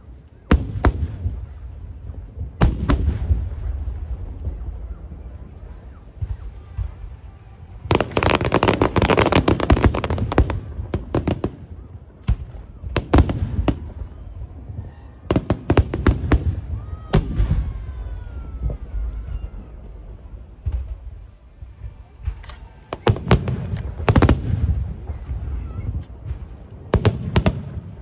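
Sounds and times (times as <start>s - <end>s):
fireworks bangs: 0.0s - 28.0s
fireworks crackling pops: 0.0s - 28.0s.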